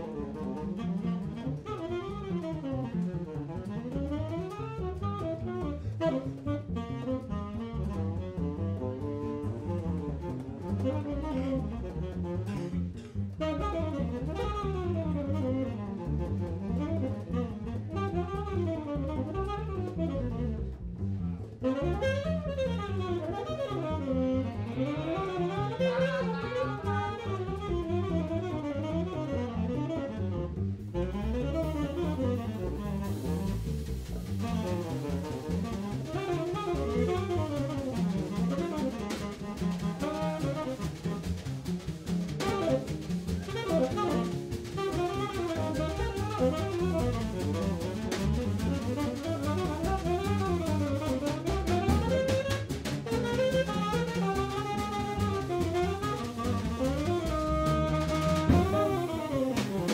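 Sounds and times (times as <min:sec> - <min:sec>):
jazz quartet playing: 0:00.0 - 0:59.9
tenor saxophone: 0:00.0 - 0:59.9.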